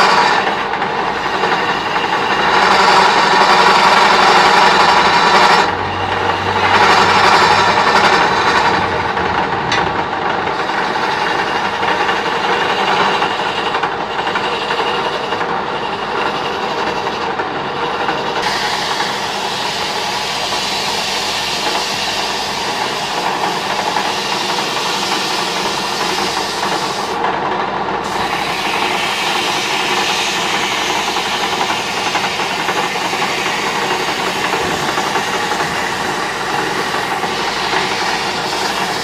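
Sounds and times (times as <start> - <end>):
chisel scraping spinning wood: 0.0 - 27.2, 28.0 - 39.0
lathe motor hum: 0.0 - 39.0.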